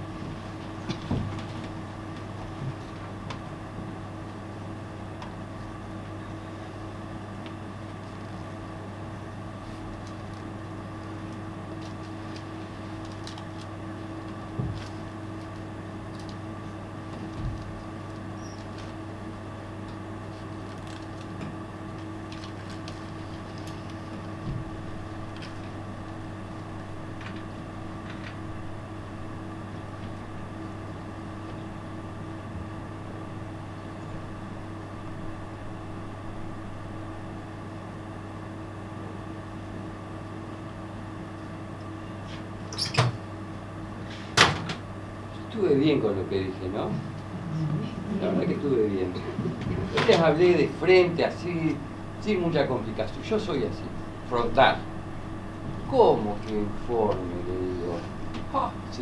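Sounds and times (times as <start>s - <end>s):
steady low hum with tones: 0.0s - 59.0s.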